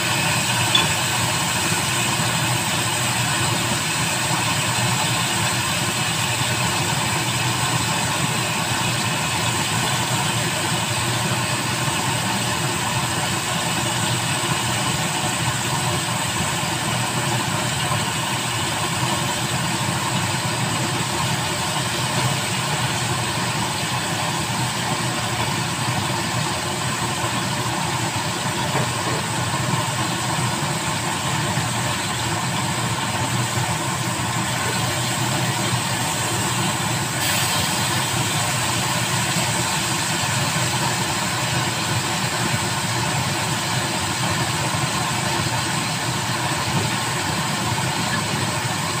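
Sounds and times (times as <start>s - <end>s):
gas stovetop noise: 0.0s - 49.0s.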